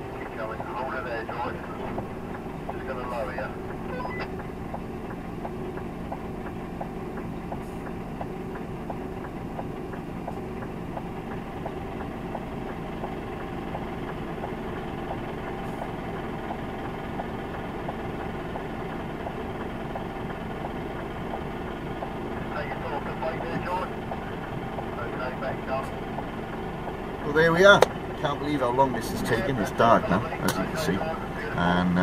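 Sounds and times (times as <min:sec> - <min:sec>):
diesel engine idling: 0:00.0 - 0:32.0
light regular ticking: 0:02.0 - 0:28.0.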